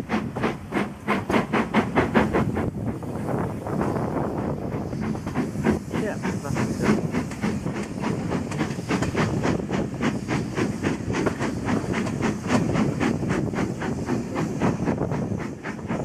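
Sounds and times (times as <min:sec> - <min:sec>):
rail noise: 0:00.0 - 0:16.0
steam locomotive chuffing: 0:00.0 - 0:16.0
wind noise: 0:00.0 - 0:16.0.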